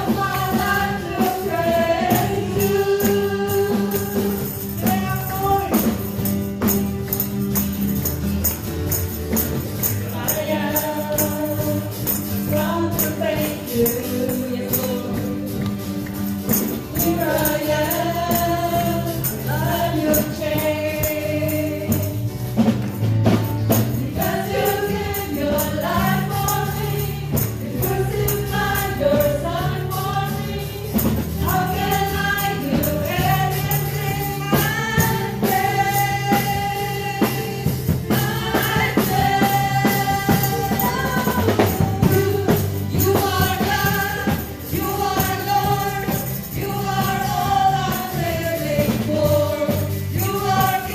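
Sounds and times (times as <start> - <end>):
bass and instruments: 0.0 - 50.9
group singing gospel: 0.0 - 50.9
percussion beat: 0.0 - 50.9.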